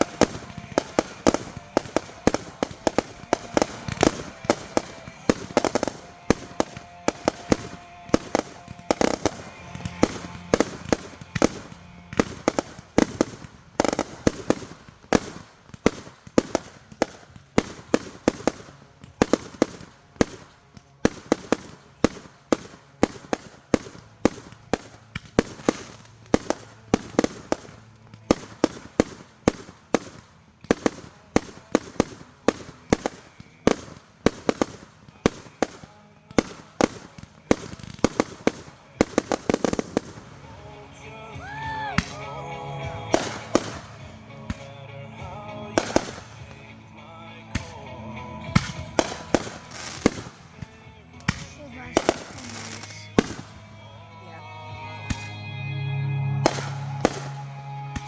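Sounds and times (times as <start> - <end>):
fireworks bangs: 0.0 - 53.8, 56.4 - 58.0.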